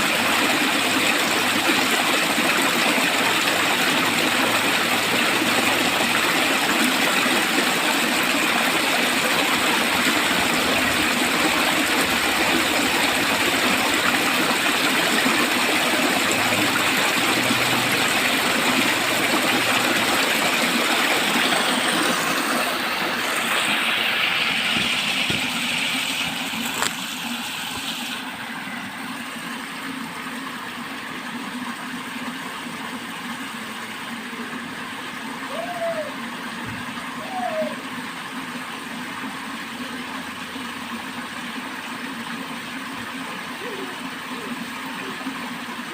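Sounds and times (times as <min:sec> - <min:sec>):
water rushing along a channel: 0:00.0 - 0:45.9.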